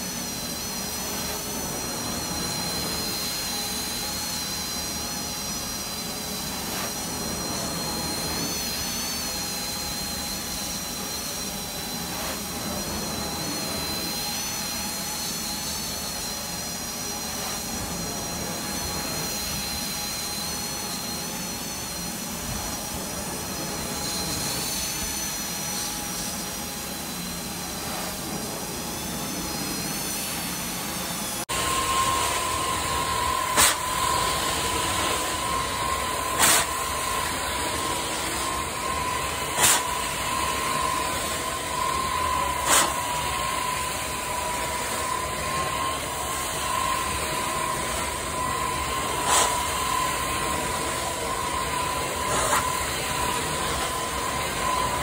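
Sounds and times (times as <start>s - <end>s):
carpet cleaning wand suction hiss: 0.0s - 55.0s
high whine: 0.0s - 55.0s.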